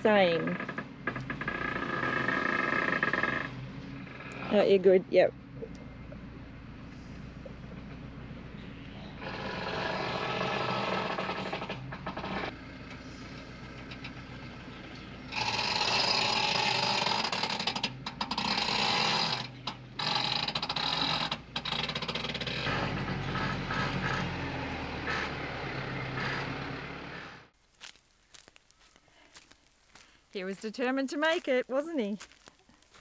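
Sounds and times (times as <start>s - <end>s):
diesel truck engine: 0.0s - 29.5s
caravan creaking and scraping: 0.0s - 33.0s.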